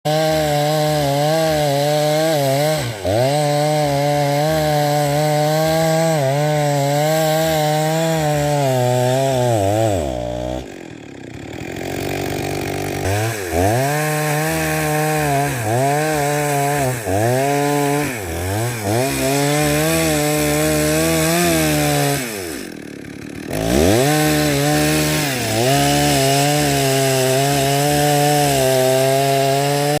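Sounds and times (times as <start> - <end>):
chainsaw cutting wood: 0.1 - 30.0.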